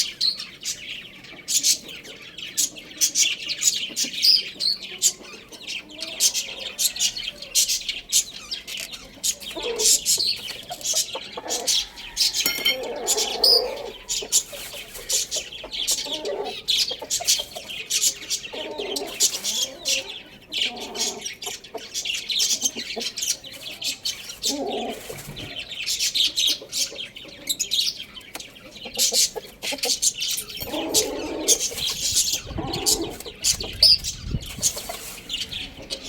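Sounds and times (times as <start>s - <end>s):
small birds chirping: 0.0s - 36.0s
chicken calls: 0.1s - 36.0s.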